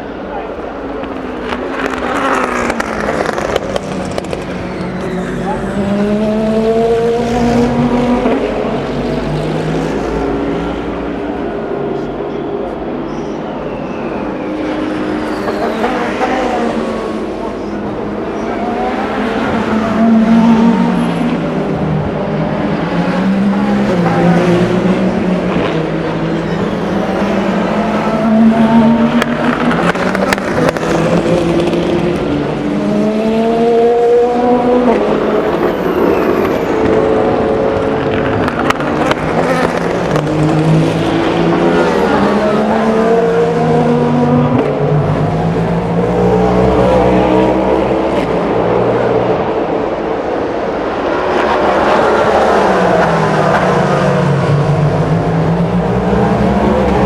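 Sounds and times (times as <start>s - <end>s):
engines changing gear: 0.0s - 57.0s
racing car engines passing: 0.0s - 57.0s.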